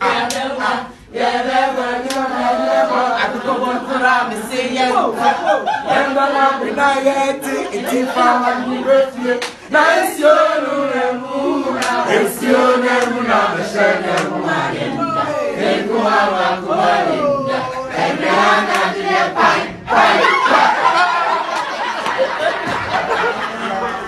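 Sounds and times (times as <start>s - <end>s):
group chanting along: 0.0s - 23.7s.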